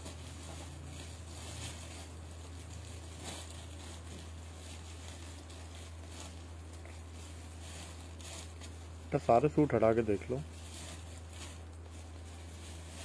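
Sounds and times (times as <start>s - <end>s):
fabric rustling and handling: 0.0s - 13.0s
steady low hum: 0.0s - 13.0s.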